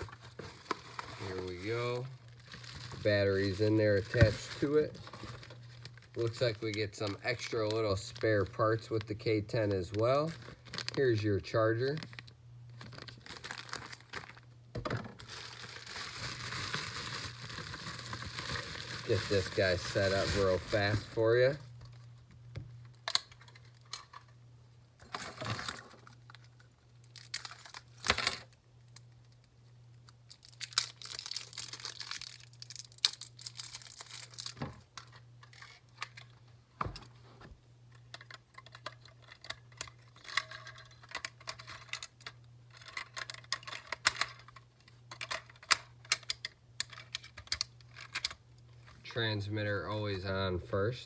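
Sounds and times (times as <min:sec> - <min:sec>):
packaging rustling: 0:00.0 - 0:14.4, 0:15.0 - 0:22.0, 0:25.0 - 0:28.5, 0:30.3 - 0:36.4, 0:38.0 - 0:48.9.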